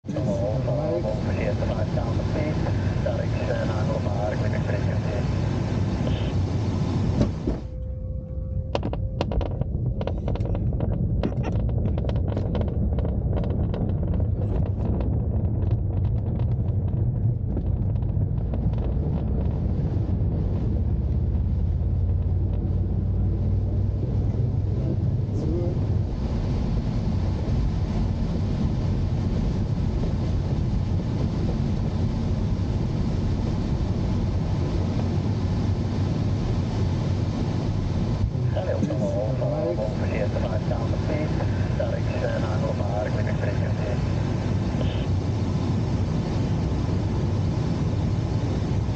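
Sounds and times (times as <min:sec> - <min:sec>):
low rumble in glider cockpit: 0:00.0 - 0:48.9.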